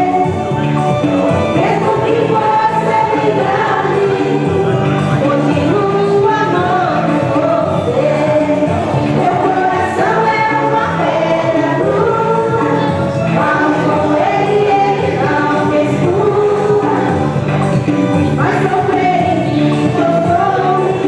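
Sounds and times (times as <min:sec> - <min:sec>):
backing music: 0:00.0 - 0:21.0
woman singing into microphone: 0:00.0 - 0:21.0.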